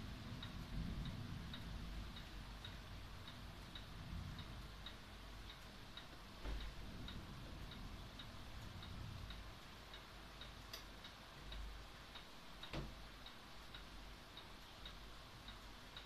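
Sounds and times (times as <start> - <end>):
faint regular ticking: 0.0 - 16.0.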